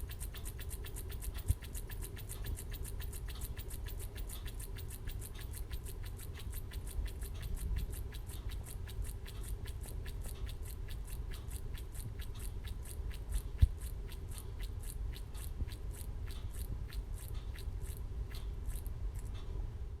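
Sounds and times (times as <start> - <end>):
stirling engine ticking: 0.0 - 18.9.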